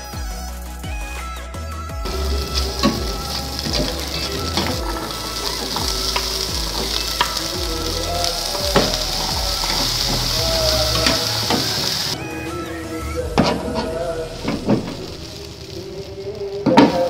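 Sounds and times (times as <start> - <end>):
food sizzling in frying pan: 2.1 - 17.0.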